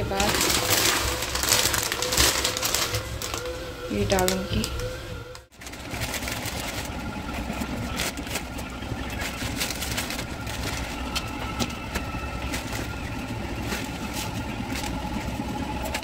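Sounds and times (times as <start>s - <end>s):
low rumble: 0.0s - 16.0s
plastic packet tearing and rustling: 0.0s - 16.0s.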